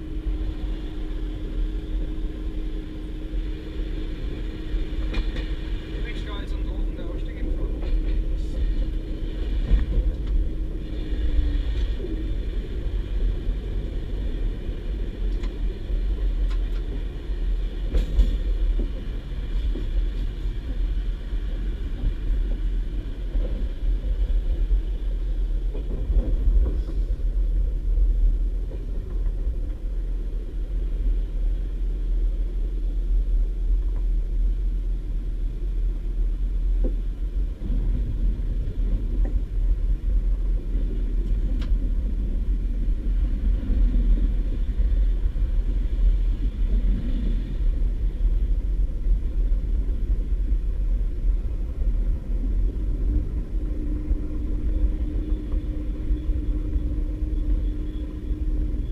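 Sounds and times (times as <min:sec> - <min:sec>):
humming tone: 0:00.0 - 0:06.0, 0:06.8 - 0:58.9
train cabin rumble: 0:00.0 - 0:58.9.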